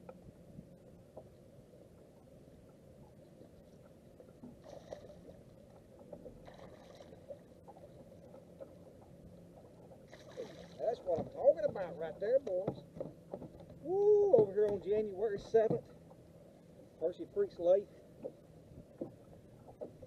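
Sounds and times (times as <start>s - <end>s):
faint low outdoor rumble: 0.0s - 20.0s.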